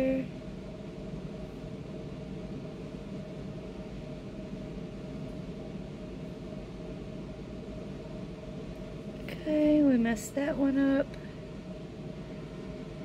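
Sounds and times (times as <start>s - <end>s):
background hum and hiss: 0.0s - 13.0s
faint constant tone: 0.0s - 13.0s.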